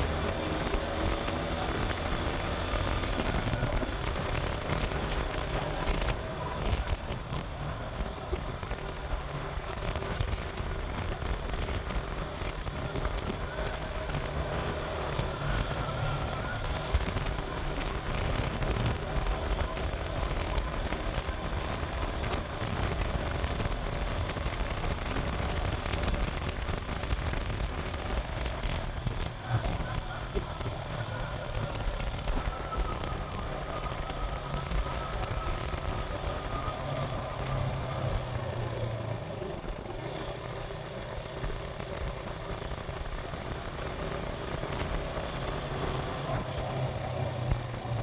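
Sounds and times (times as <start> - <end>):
wind noise: 0.0 - 40.3
road and engine rumble: 0.0 - 48.0.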